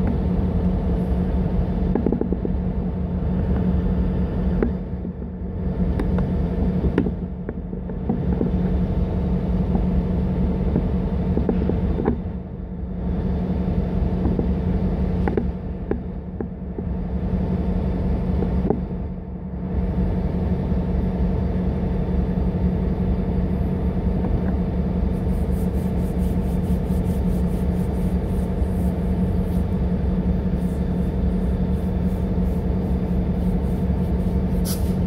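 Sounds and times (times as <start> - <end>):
diesel locomotive idling: 0.0 - 35.0.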